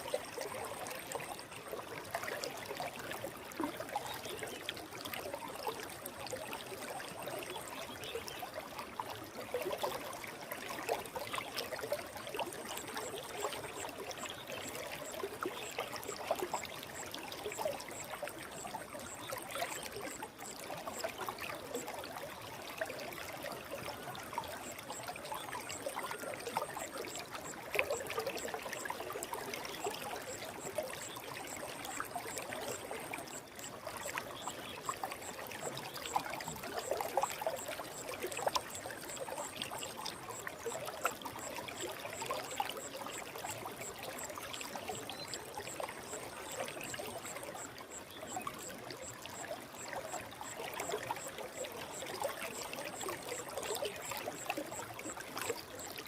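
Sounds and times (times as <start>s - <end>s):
forest stream babbling: 0.0s - 56.0s.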